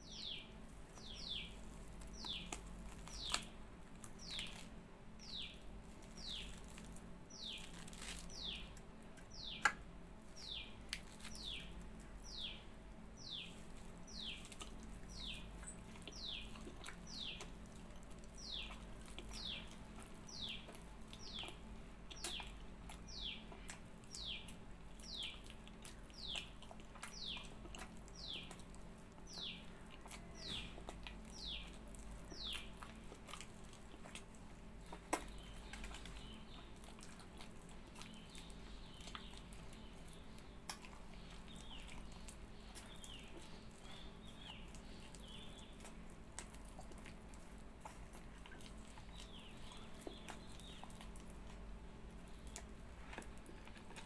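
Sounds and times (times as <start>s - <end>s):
bird chirping: 0.0s - 9.8s, 10.4s - 34.1s, 34.8s - 45.9s, 48.4s - 51.3s
low steady hum: 0.0s - 54.0s.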